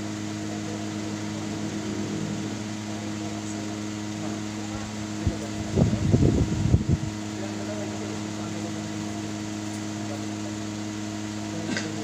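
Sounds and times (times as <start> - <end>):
fluid exchange machine humming: 0.0 - 12.0.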